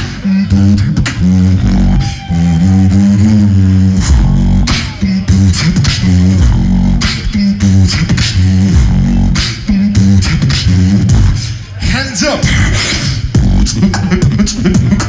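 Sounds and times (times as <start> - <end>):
person beatboxing into microphone: 0.0 - 15.0.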